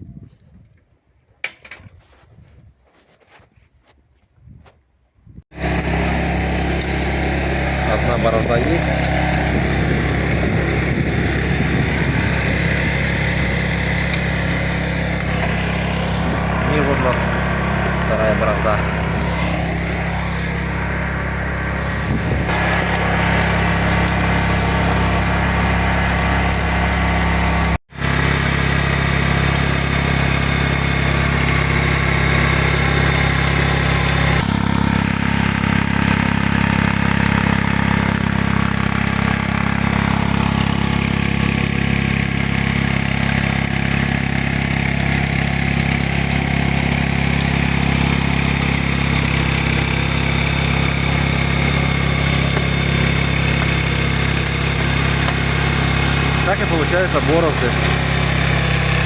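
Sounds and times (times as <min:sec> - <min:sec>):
rotary tiller in soil: 0:05.5 - 0:59.0
tractor engine running: 0:05.5 - 0:59.0.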